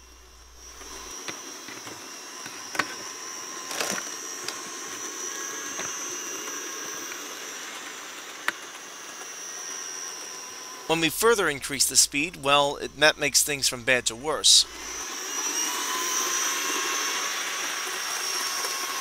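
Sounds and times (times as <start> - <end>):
model train motor whine: 0.0 - 11.3, 14.6 - 19.0.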